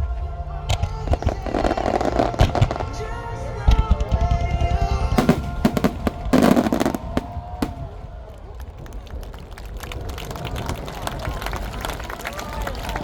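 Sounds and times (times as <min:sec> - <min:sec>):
fireworks bangs and crackles: 0:00.7 - 0:13.0.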